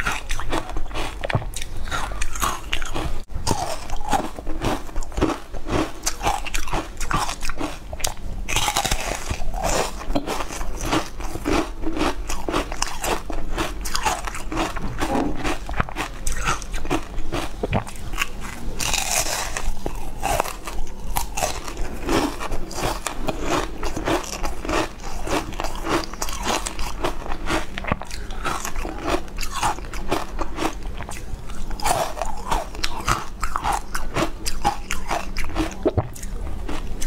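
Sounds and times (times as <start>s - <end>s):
person biting and chewing: 0.0s - 37.0s.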